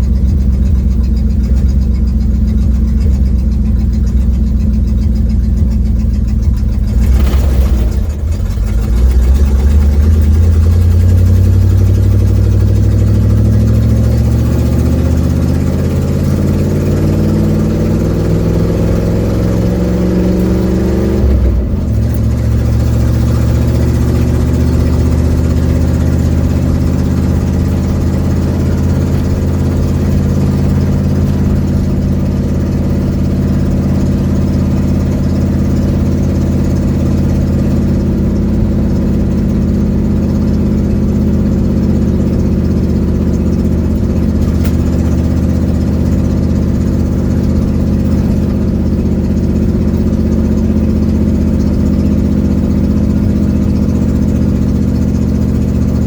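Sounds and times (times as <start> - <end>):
car engine running: 0.0 - 56.0
loud leaking exhaust: 0.0 - 56.0.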